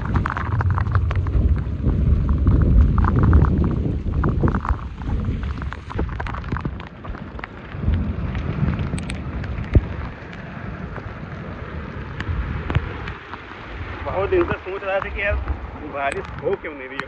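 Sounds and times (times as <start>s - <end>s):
heavy rain pouring: 0.0s - 17.0s
raindrops tapping on phone: 0.0s - 17.0s.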